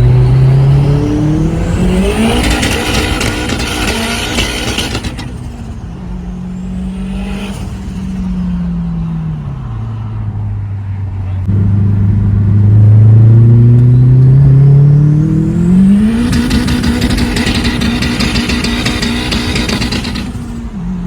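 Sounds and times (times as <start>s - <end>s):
car engine revving: 0.0s - 10.6s, 11.3s - 21.0s.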